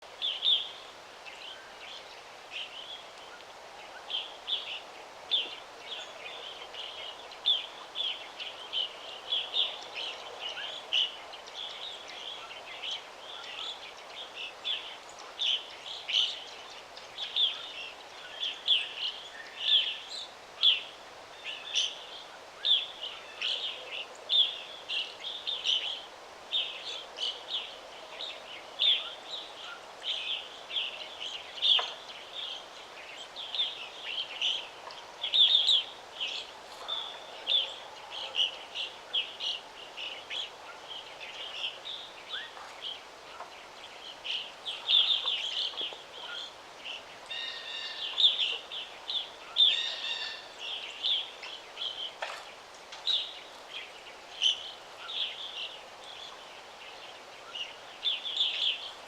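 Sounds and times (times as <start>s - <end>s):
faint background hiss: 0.0s - 59.0s
songbirds chirping: 0.0s - 59.0s.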